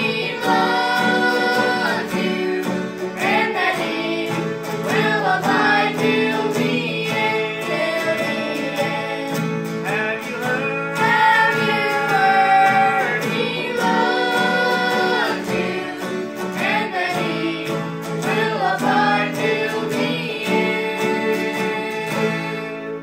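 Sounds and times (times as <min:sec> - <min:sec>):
acoustic guitars: 0:00.0 - 0:23.0
banjo: 0:00.0 - 0:23.0
group singing in harmony: 0:00.0 - 0:23.0.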